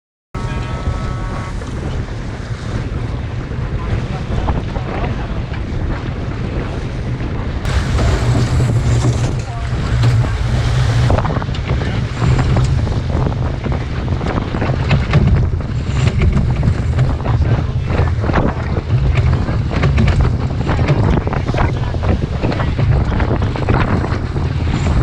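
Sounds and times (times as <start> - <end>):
strong wind buffeting microphone: 0.4 - 25.0
water splashing against hull: 0.4 - 25.0.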